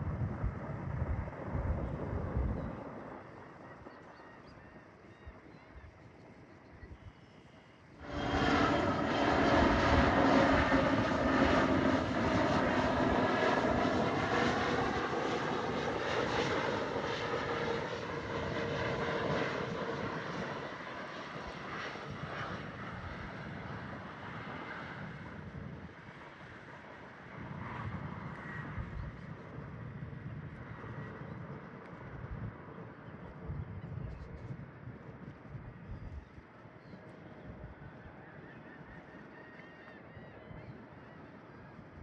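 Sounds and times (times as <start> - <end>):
jet airliner engines passing: 0.0 - 42.0.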